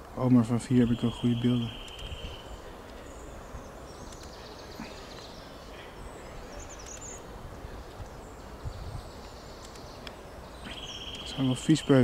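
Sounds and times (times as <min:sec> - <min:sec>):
stream background noise: 0:00.0 - 0:12.0
faint high bird chirps: 0:00.8 - 0:07.3, 0:08.1 - 0:12.0.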